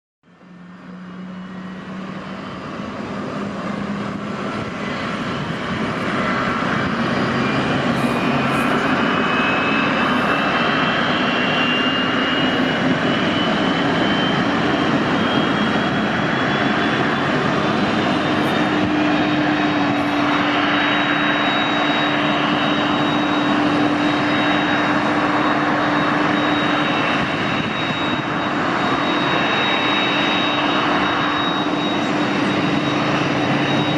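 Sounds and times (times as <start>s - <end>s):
jet engines whining: 0.3s - 33.9s.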